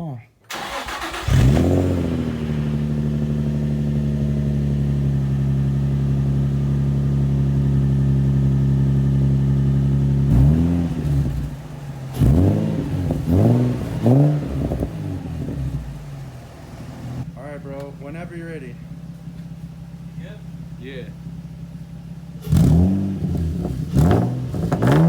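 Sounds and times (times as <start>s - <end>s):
car engine idling and revving: 0.5s - 25.0s.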